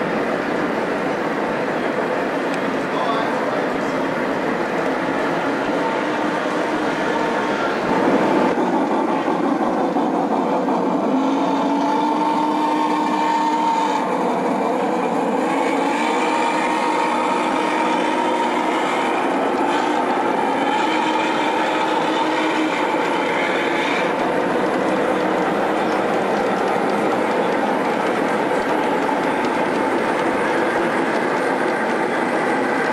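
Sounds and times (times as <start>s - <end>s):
model train wheels rumbling on track: 0.0s - 32.9s.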